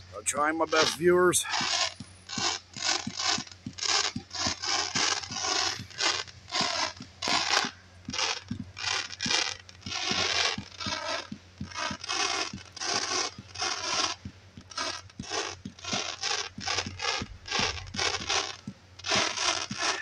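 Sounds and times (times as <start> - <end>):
firework shots thumping: 0.0 - 20.0
rasping hiss of firework comet: 0.1 - 20.0.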